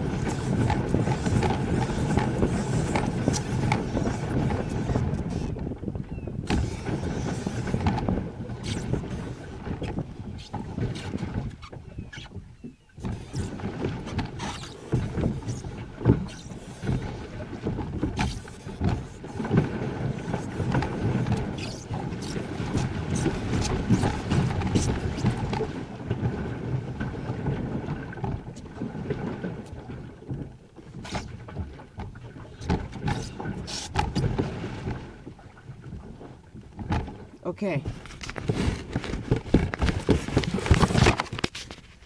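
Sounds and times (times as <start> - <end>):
kayak knocks: 0.0 - 41.8
kayak rumbling on water: 0.0 - 42.0
wind on microphone: 0.0 - 42.0.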